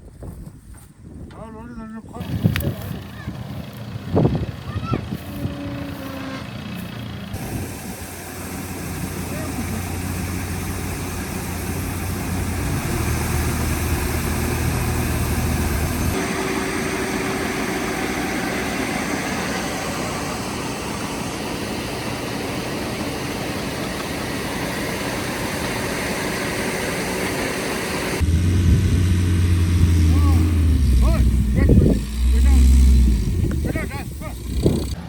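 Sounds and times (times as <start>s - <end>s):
combine harvester engine: 2.2s - 35.0s.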